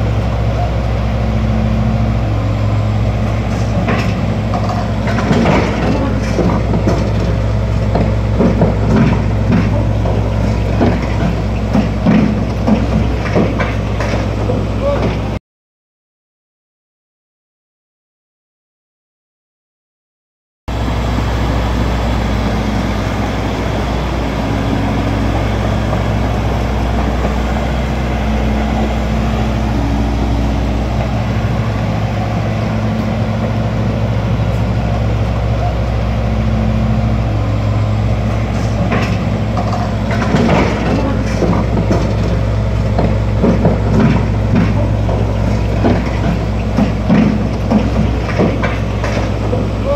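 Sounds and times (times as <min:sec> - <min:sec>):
bulldozer diesel engine running: 0:00.0 - 0:15.4, 0:20.7 - 0:49.9
steel tracks clanking: 0:00.0 - 0:15.4, 0:20.7 - 0:49.9.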